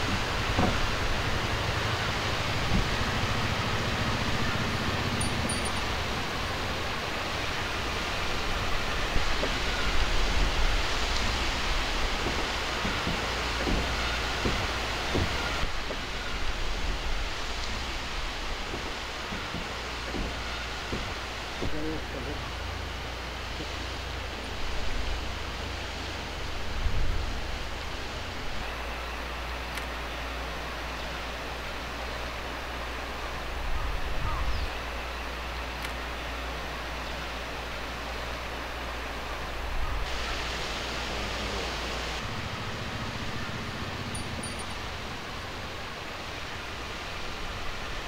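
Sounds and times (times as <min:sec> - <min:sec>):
outdoor hiss: 0:00.0 - 0:48.0
waterfall rushing down rocks: 0:00.0 - 0:48.0.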